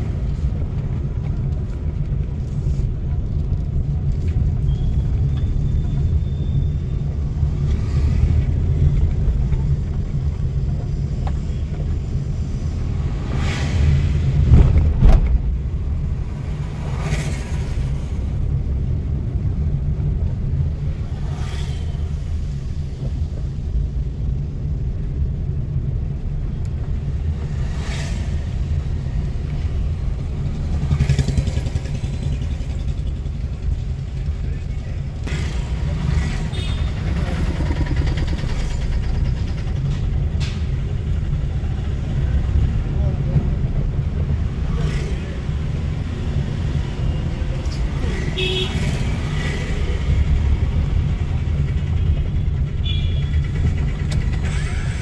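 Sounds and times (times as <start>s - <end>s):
car engine and tyres rumble: 0.0s - 55.0s
vehicles passing: 0.0s - 55.0s.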